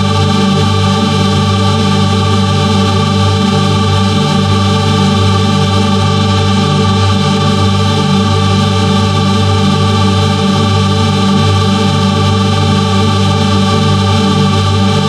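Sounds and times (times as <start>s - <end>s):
dense choir-like processed chord: 0.0s - 15.0s.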